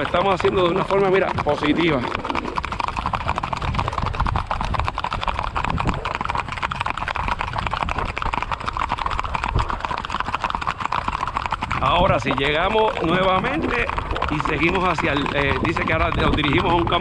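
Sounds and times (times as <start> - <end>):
horse hoofbeats clattering: 0.0 - 17.0.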